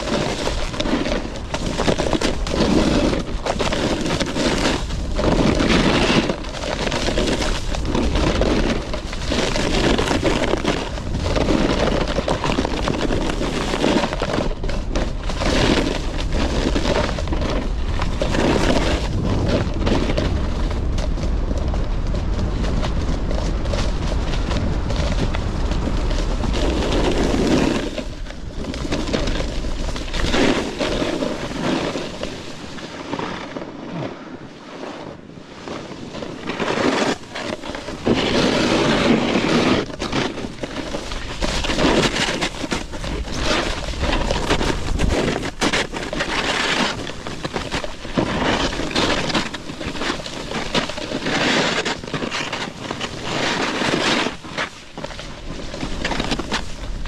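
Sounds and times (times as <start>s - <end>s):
wind buffeting microphone: 0.0s - 32.9s, 35.1s - 51.3s
snowboard scraping over snow: 0.0s - 57.0s.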